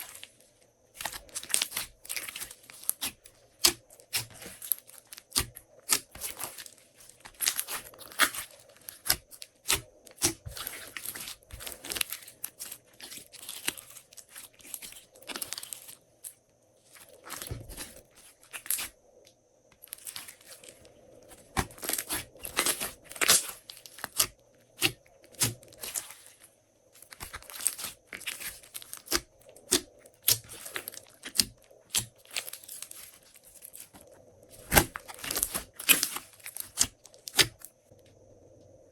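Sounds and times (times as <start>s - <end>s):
slime crackling and popping: 1.0s - 16.0s, 17.2s - 18.9s, 19.8s - 26.3s, 27.0s - 34.0s, 34.6s - 37.8s.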